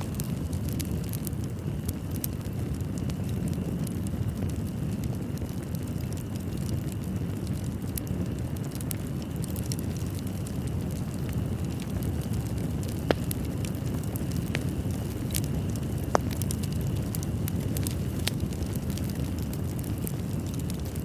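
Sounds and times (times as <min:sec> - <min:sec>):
fire crackles and pops: 0:00.0 - 0:21.0
low rumble of fire flames: 0:00.0 - 0:21.0.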